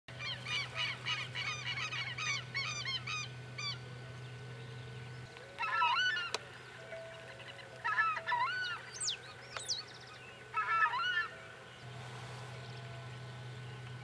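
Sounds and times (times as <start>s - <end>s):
birds calling rapidly: 0.1s - 14.0s.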